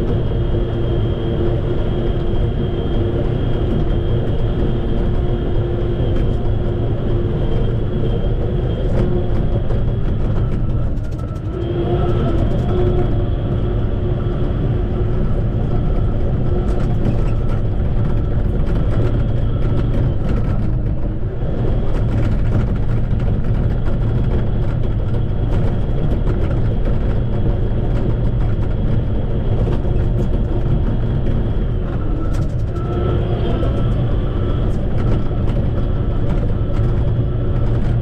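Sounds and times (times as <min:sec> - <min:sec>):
bulldozer diesel engine running: 0:00.0 - 0:38.0
steady high whine: 0:00.0 - 0:38.0.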